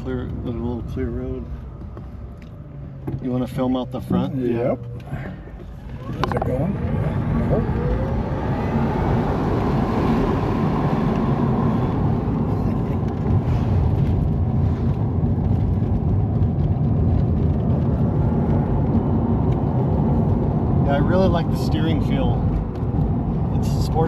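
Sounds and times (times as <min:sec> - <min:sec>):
tyre and wind noise in car: 0:00.0 - 0:24.0.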